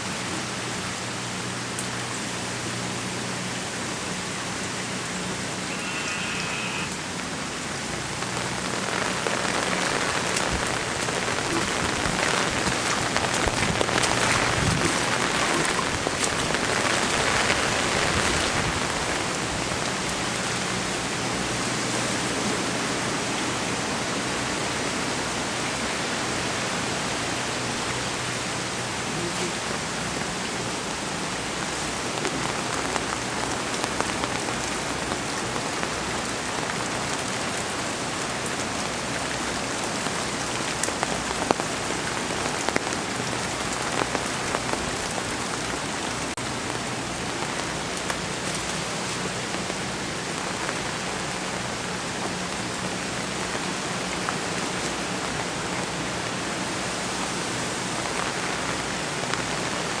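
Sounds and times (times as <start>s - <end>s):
heavy rain pattering: 0.0s - 60.0s
sharp raindrops: 0.0s - 60.0s.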